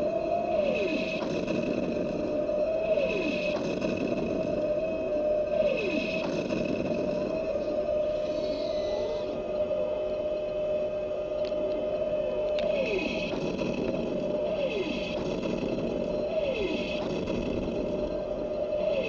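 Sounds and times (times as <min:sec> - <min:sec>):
looped engine idle hum with whine: 0:00.0 - 0:19.0.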